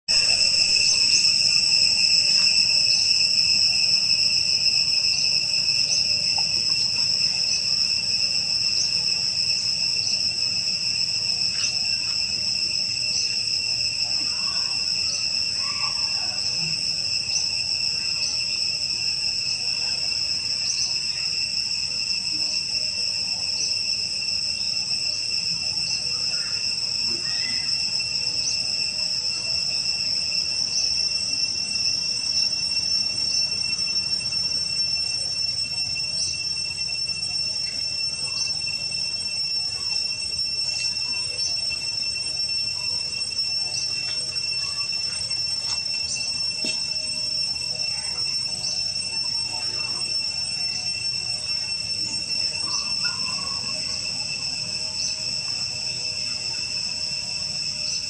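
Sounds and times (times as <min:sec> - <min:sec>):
high-pitched insect drone: 0:00.1 - 0:58.0.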